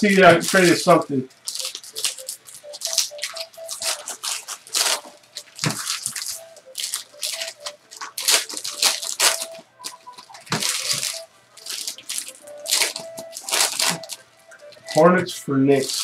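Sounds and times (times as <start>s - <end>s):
plastic wrappers crinkling: 0.0s - 16.0s.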